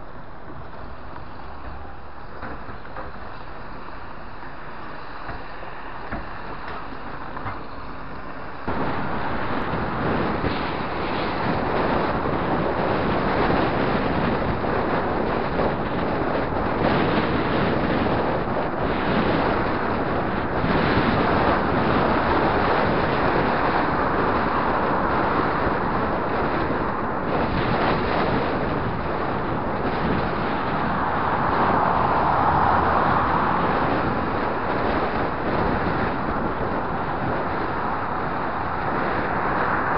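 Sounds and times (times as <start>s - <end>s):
road traffic noise: 0.0s - 39.9s
wind rushing over microphone: 0.0s - 39.9s.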